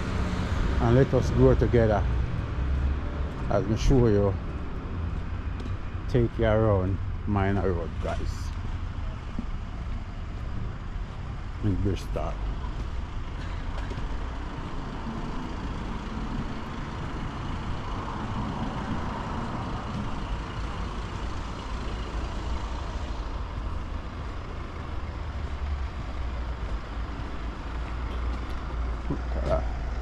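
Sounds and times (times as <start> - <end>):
road vehicle rumble: 0.0 - 30.0.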